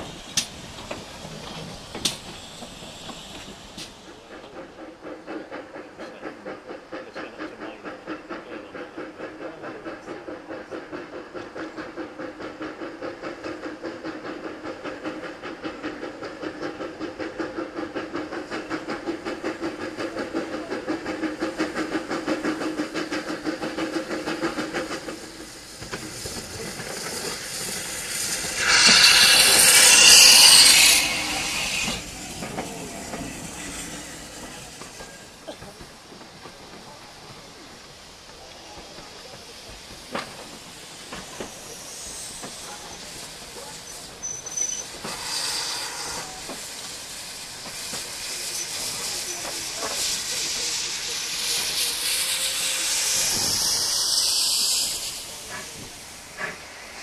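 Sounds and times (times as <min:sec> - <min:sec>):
steam engine exhaust beats: 0:00.0 - 0:57.0
steam hissing: 0:00.0 - 0:57.0.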